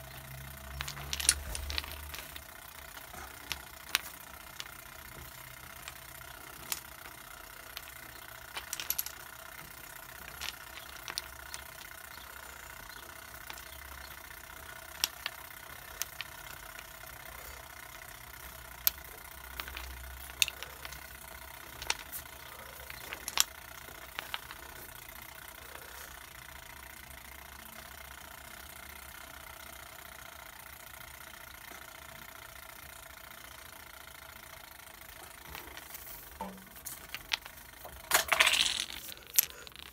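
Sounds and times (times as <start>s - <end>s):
wooden blocks clicking on tile: 0.0s - 30.0s, 35.0s - 39.9s
steady background hum: 0.0s - 39.9s.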